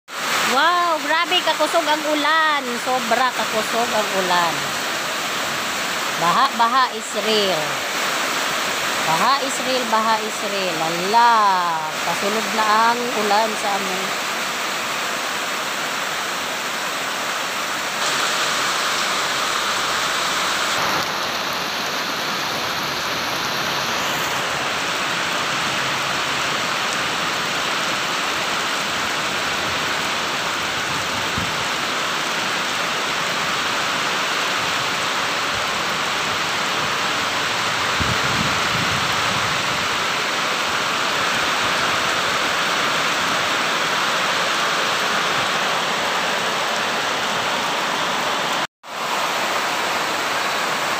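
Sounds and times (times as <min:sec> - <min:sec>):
heavy rain hissing: 0:00.1 - 0:50.9.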